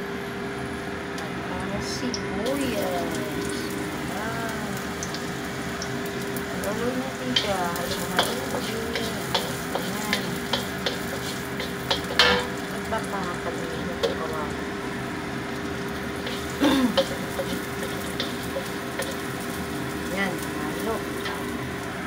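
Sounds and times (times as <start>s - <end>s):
onion sizzling in a wok: 1.8s - 22.0s.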